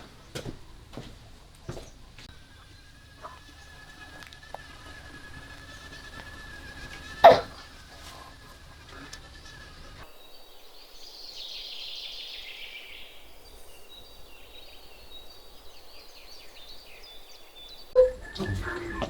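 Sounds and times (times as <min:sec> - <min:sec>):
faint high bird chirps: 0:01.7 - 0:19.0.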